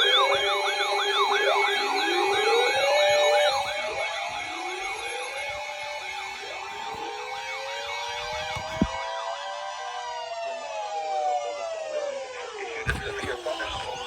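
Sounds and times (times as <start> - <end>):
emergency vehicle sirens: 0.0 - 14.0.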